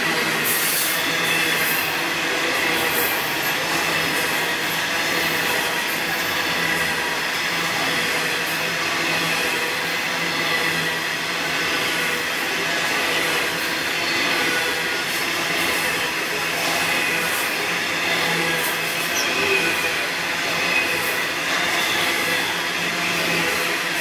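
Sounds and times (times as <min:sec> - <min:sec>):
wheels whining: 0:00.0 - 0:24.0.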